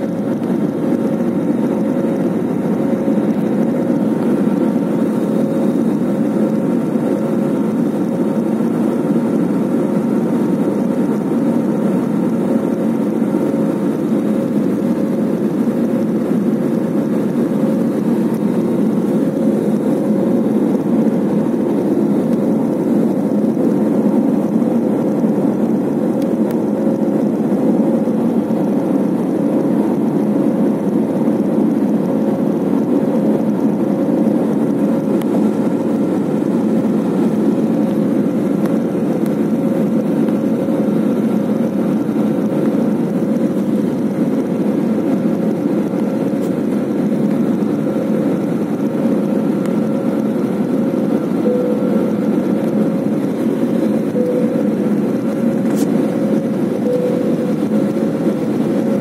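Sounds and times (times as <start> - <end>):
jet airliner cabin engine rumble: 0.0 - 59.0.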